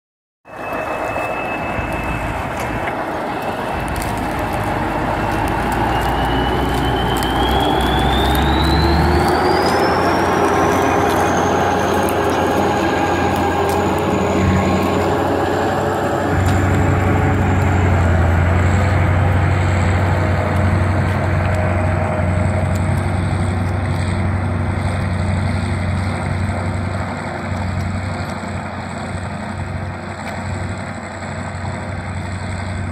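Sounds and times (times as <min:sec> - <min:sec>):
tractor diesel engine under load: 0:00.5 - 0:32.9.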